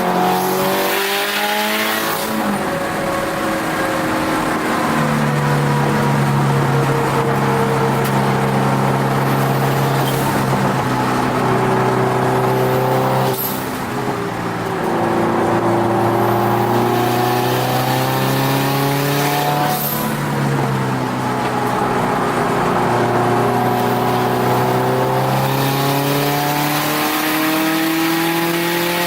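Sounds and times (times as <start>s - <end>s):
car engine revving on track: 0.0s - 29.0s.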